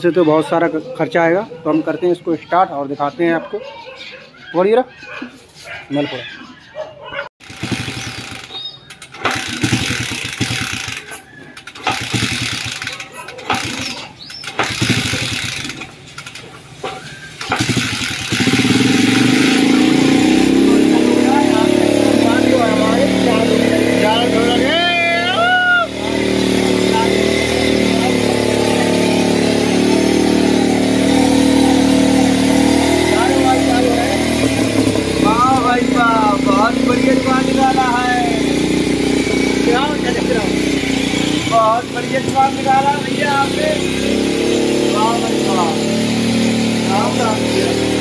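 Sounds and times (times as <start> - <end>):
motorcycle engine cranking: 7.4 - 48.0.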